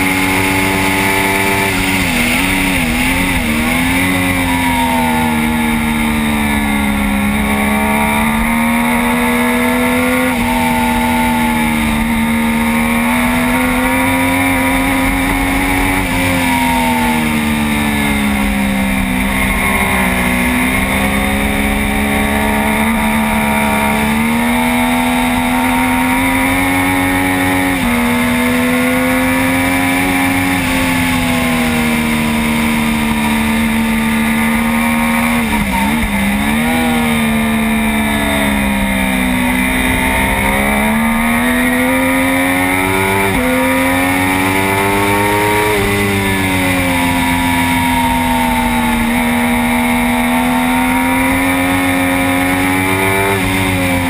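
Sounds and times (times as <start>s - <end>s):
motorcycle downshifts: 0.0s - 54.0s
motorcycle engine revving high: 0.0s - 54.0s.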